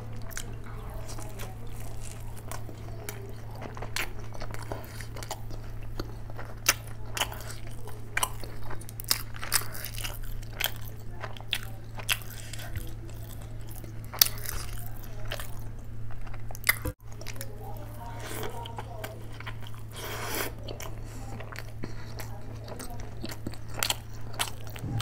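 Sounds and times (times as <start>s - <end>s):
steady low hum: 0.0s - 25.0s
wet chewing and lip smacking: 0.1s - 25.0s.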